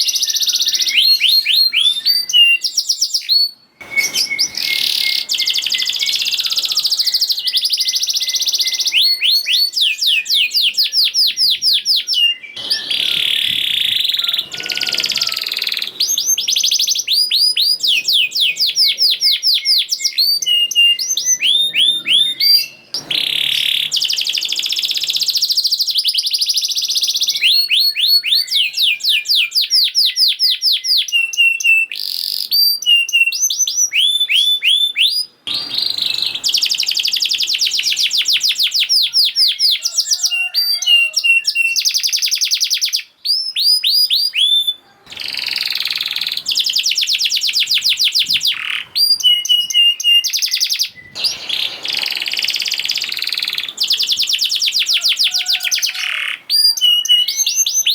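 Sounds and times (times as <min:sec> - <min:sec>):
canary singing trills: 0:00.0 - 0:57.9.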